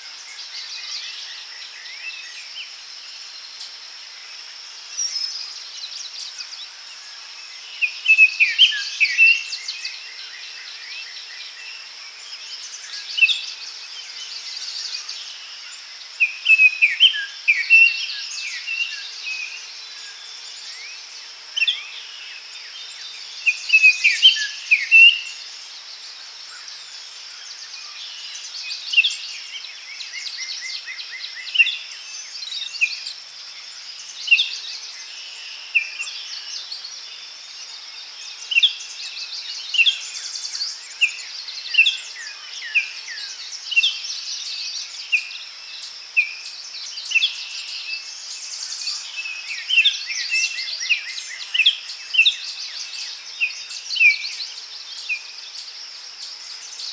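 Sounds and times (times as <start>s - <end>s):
songbirds singing and calling: 0.0s - 56.9s.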